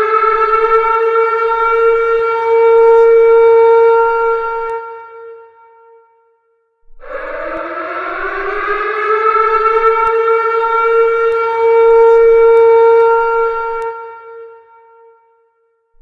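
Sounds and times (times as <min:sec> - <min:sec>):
civil defense siren wailing: 0:00.0 - 0:06.0, 0:06.9 - 0:15.4.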